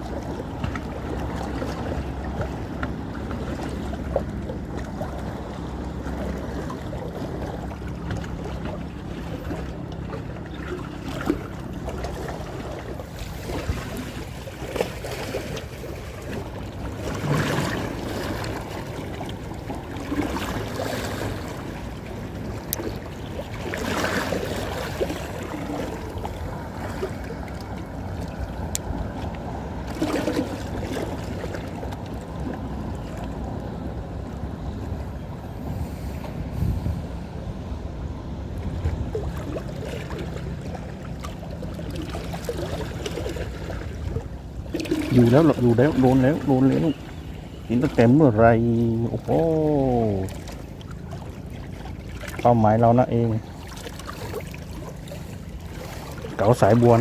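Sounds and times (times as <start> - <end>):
sea water sloshing and lapping: 0.0 - 57.0
steady low hum: 0.0 - 57.0.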